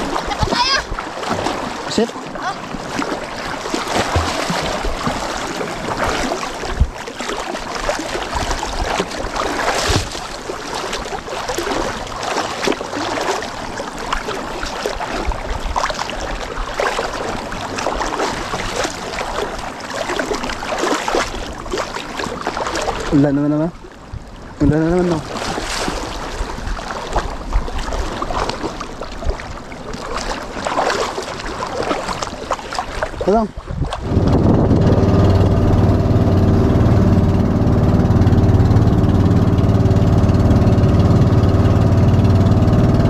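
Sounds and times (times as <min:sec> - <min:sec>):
water splashing against boat hull: 0:00.0 - 0:43.0.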